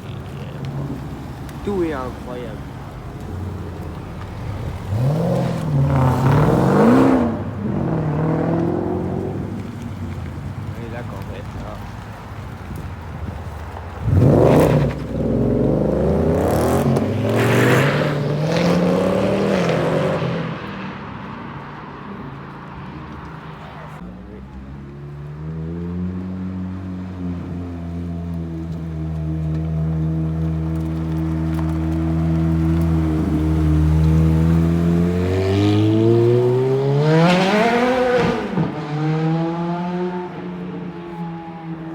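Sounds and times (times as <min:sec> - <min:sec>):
car engine revving and accelerating: 0:00.0 - 0:41.9.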